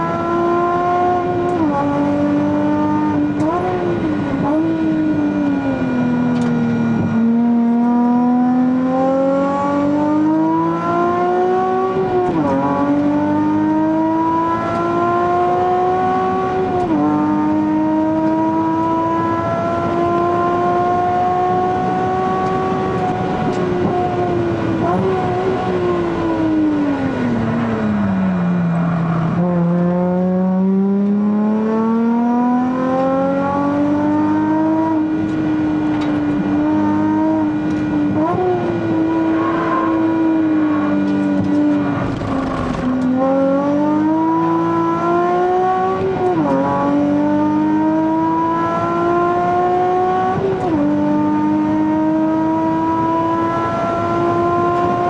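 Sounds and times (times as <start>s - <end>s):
car engine revving in cabin: 0.0s - 55.0s.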